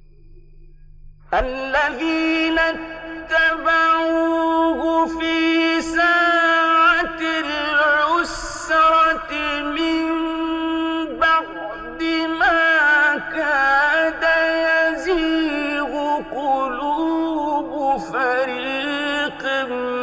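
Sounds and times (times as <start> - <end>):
man chanting: 1.3 - 20.0.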